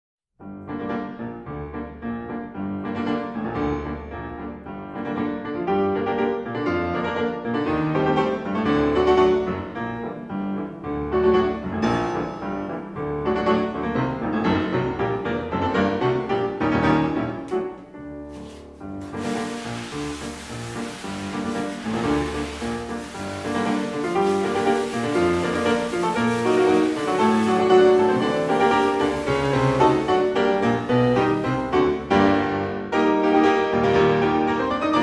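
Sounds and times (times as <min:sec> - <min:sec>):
piano piece: 0:00.4 - 0:35.0.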